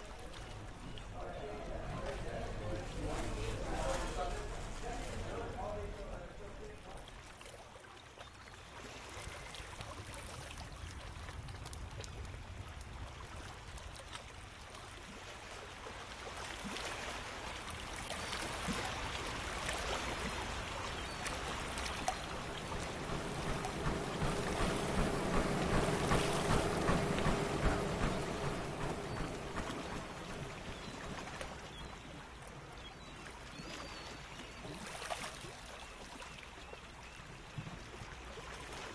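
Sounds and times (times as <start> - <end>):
water rushing and splashing: 0.0 - 36.2.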